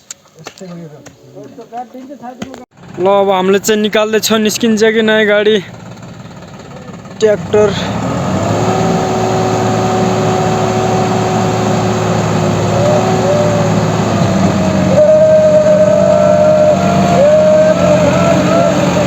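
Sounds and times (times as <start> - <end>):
tractor engine revving: 2.8 - 19.0.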